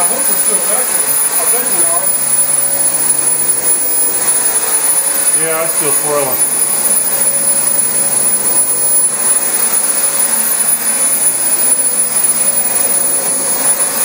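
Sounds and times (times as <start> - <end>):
vacuum cleaner motor whine: 0.0 - 14.0.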